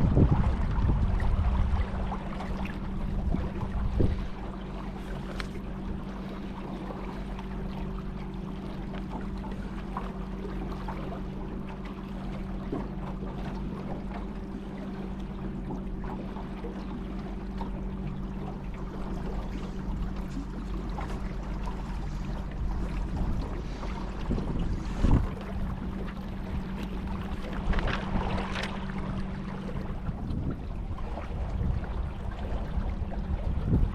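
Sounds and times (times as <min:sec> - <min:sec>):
boat motor humming: 0:00.0 - 0:33.9
water splashing around hull: 0:00.0 - 0:33.9.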